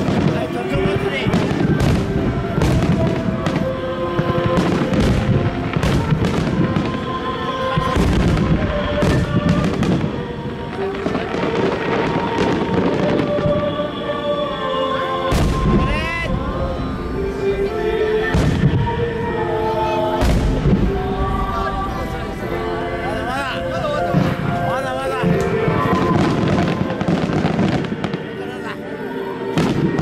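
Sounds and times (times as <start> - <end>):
fireworks bursting: 0.0 - 30.0
song playing: 0.0 - 30.0.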